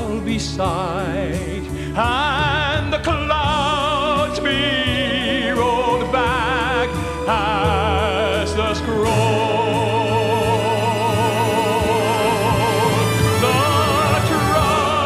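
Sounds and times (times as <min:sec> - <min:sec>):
band playing: 0:00.0 - 0:15.0
person singing with vibrato: 0:00.0 - 0:15.0.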